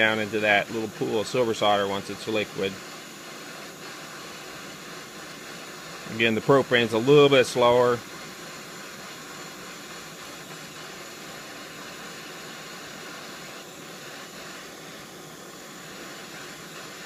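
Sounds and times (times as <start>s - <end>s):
propane torch hissing: 0.0s - 17.0s.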